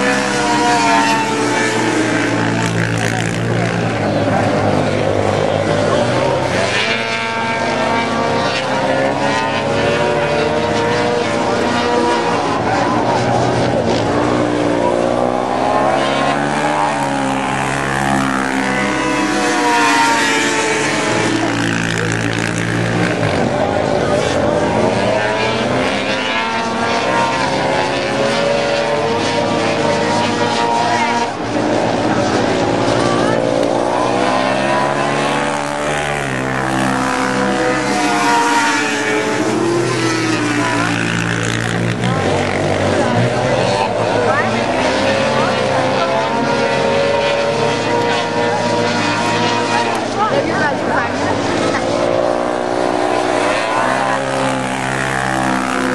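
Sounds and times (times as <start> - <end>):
quad engine revving: 0.0 - 55.9.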